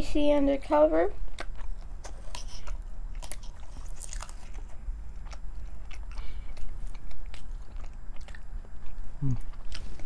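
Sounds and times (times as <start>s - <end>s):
chewing and biting food: 1.2s - 10.0s.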